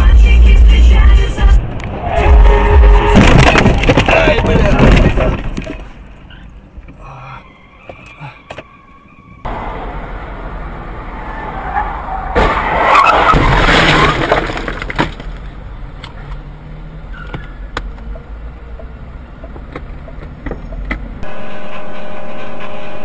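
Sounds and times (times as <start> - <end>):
car engine and road noise: 0.0 - 22.9
tyres skidding: 1.2 - 21.3.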